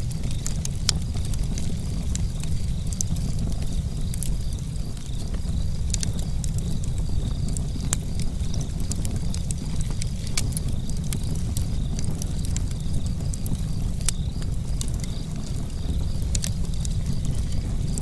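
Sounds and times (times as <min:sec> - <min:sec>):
faint sharp crackles: 0:00.0 - 0:18.0
steady low rumble: 0:00.0 - 0:18.0.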